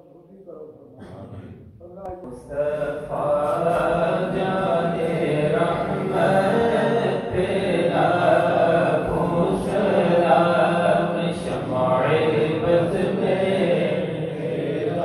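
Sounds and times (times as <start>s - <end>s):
men chanting together: 2.5s - 15.0s.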